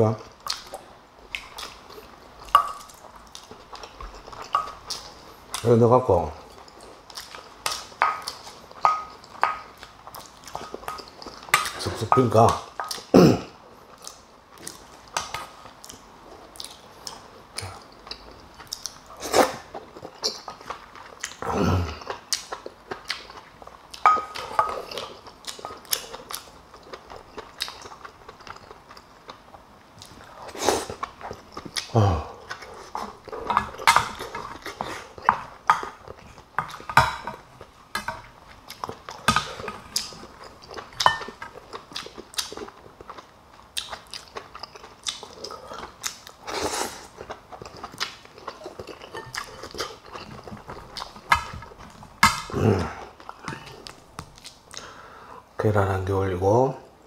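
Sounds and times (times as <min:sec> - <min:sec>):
chewing food: 0:00.2 - 0:13.1, 0:13.8 - 0:55.1.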